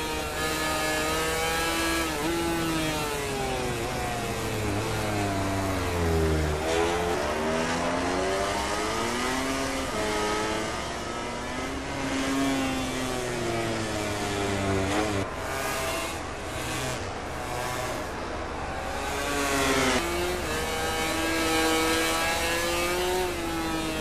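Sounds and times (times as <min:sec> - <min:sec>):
racing motorcycle engines accelerating: 0:00.0 - 0:24.0.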